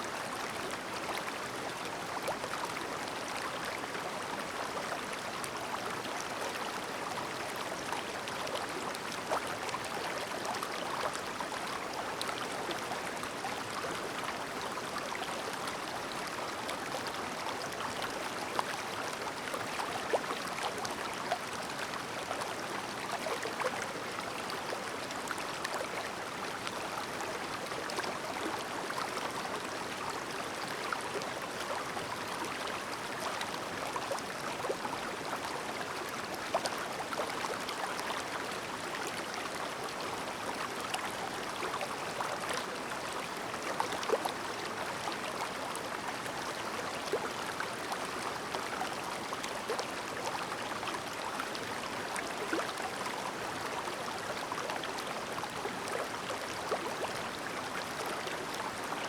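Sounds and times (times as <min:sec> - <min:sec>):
stream babbling over stones: 0:00.2 - 0:59.0.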